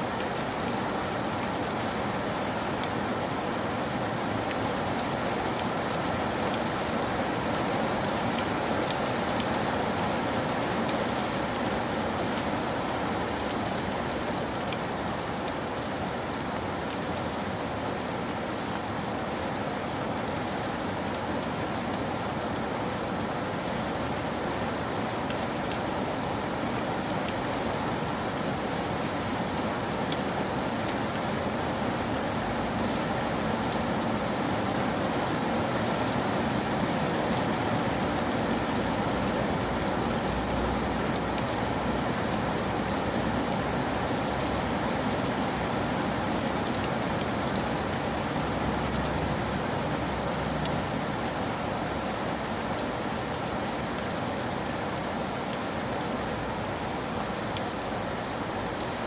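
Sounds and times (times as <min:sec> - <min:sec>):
rain falling: 0:00.0 - 0:59.0
raindrops ticking on a surface: 0:00.1 - 0:59.0.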